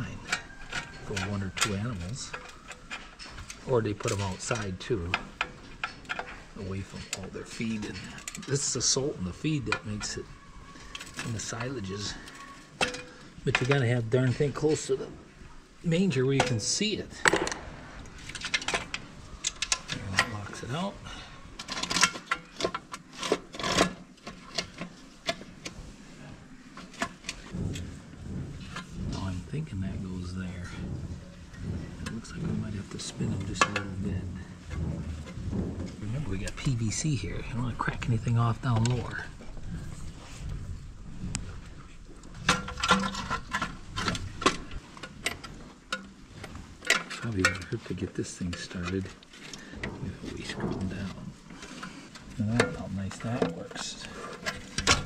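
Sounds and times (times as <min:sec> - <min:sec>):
metal parts clicking and rattling: 0:00.0 - 0:55.0.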